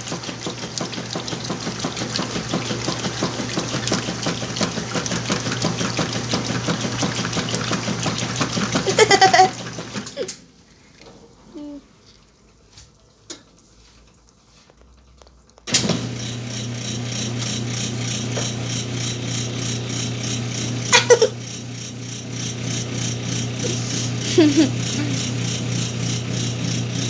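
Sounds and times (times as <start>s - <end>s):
washing machine running: 0.0s - 11.7s, 15.7s - 27.0s.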